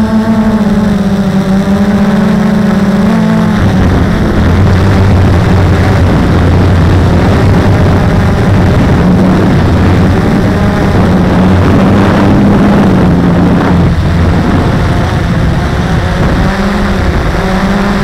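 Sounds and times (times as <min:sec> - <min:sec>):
drone propellers whirring: 0:00.0 - 0:18.0.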